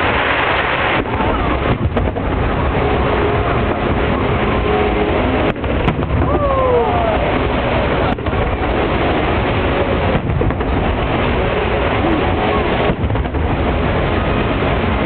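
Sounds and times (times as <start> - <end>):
crowd voices: 0.0 - 15.0
fireworks booming and crackling: 0.0 - 15.0.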